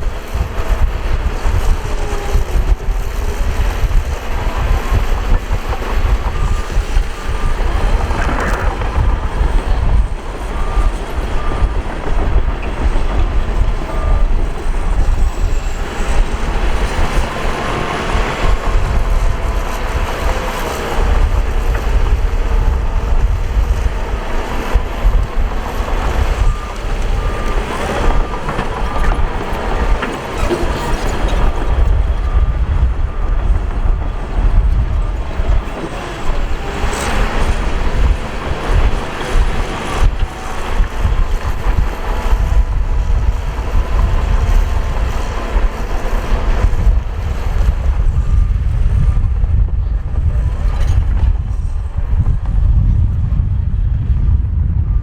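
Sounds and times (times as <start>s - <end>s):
heavy machinery engine rumble: 0.0s - 55.0s
reversing alarm beeping: 0.2s - 47.6s.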